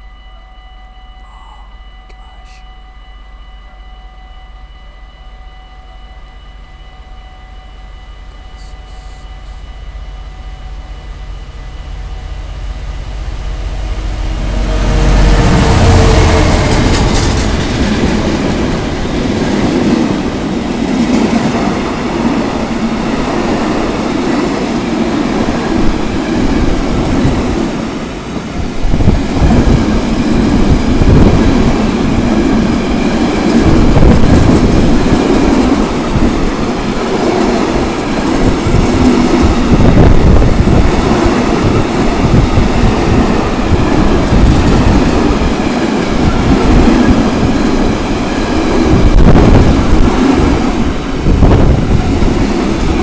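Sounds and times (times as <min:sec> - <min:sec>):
train wheels rumbling on rails: 0:08.0 - 0:53.0.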